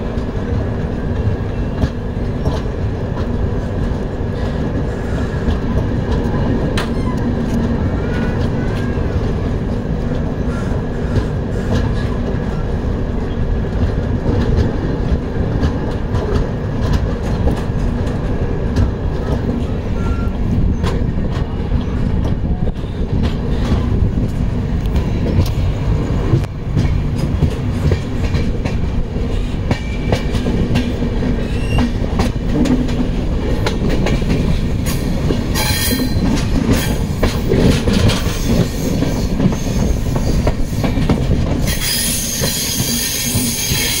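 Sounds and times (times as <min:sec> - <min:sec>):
train coach rumbling: 0:00.0 - 0:44.0
wheels clicking over rail joints: 0:00.1 - 0:44.0.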